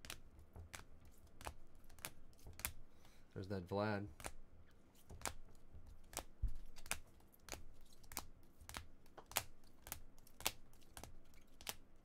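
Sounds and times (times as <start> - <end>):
cards clicking on a table: 0.0 - 2.8, 4.1 - 4.4, 5.0 - 11.8.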